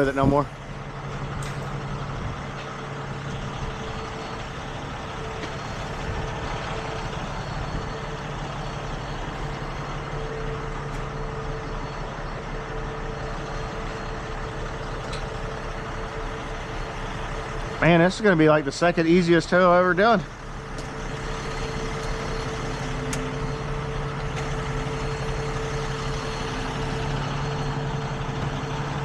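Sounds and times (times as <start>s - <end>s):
faint engine whine: 0.0s - 29.0s
truck engine running: 0.0s - 29.0s.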